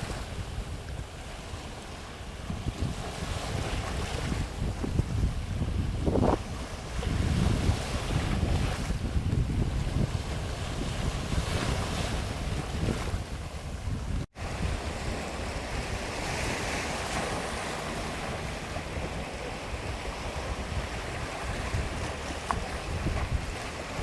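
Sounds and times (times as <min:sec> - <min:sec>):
sea waves washing: 0:00.0 - 0:24.0
wind buffeting microphone: 0:00.0 - 0:24.0.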